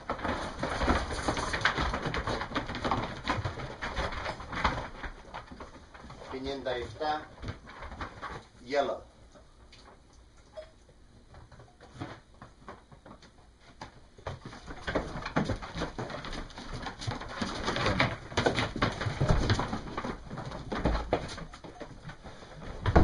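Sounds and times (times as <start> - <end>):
sheep shuffling and clattering: 0.0 - 23.0.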